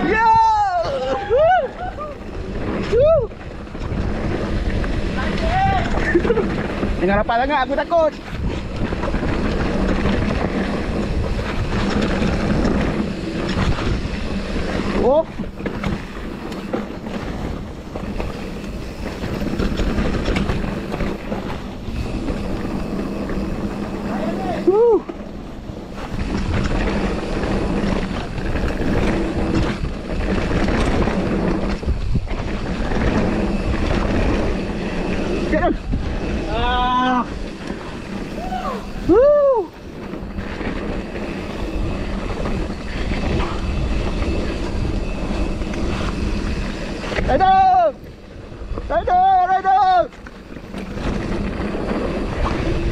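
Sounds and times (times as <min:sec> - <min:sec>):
bike rattling over bumps: 0:00.0 - 0:52.9
bike tyres rolling on dirt: 0:00.0 - 0:52.9
wind buffeting microphone: 0:00.0 - 0:52.9.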